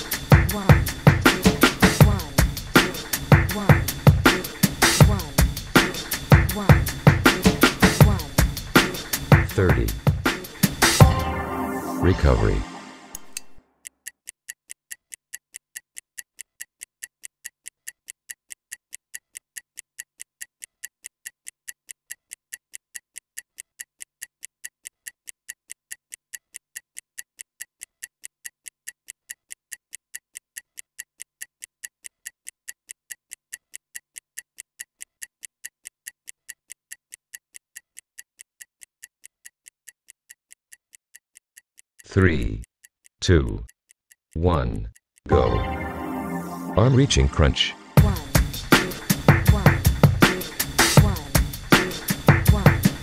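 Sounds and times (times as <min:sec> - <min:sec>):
stopwatch ticking: 0:00.0 - 0:11.1, 0:13.2 - 0:45.5, 0:48.0 - 0:53.0.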